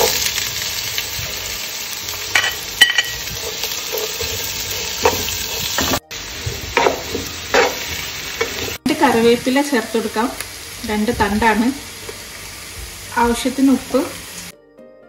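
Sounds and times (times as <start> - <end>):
onions sizzling in oil: 0.0 - 14.6.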